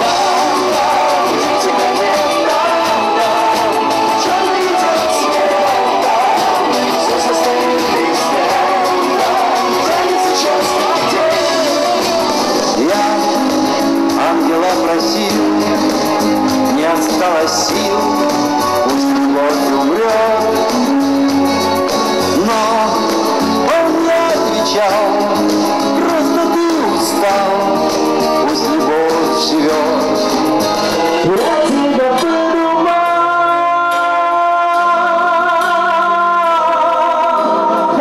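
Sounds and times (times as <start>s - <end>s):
live band playing pop song: 0.0s - 38.0s
man singing: 0.0s - 38.0s.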